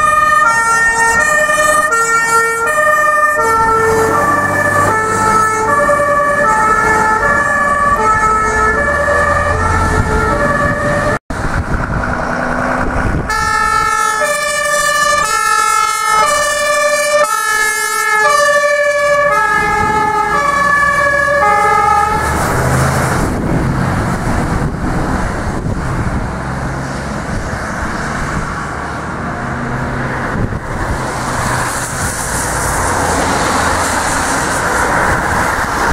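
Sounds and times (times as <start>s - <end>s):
two-tone fire engine sirens: 0.0s - 12.0s, 12.8s - 35.9s
road traffic noise: 0.0s - 35.9s
wind: 0.0s - 35.9s.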